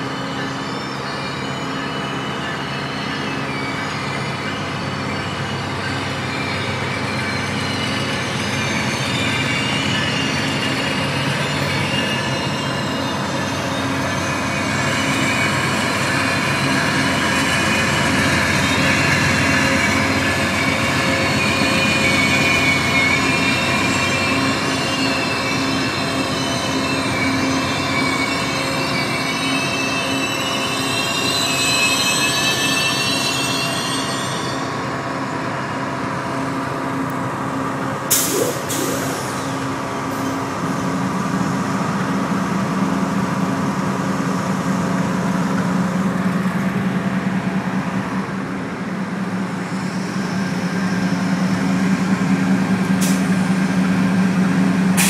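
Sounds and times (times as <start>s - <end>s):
diesel locomotives droning: 0.0s - 55.0s
train wheels squealing on rails: 0.0s - 55.0s.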